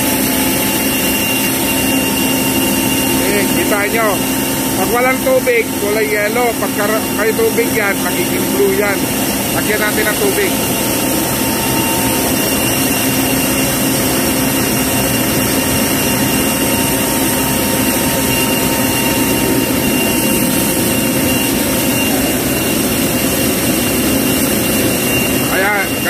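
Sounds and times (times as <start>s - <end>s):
aircraft turbine whine: 0.0s - 26.0s
high tone: 0.6s - 26.0s.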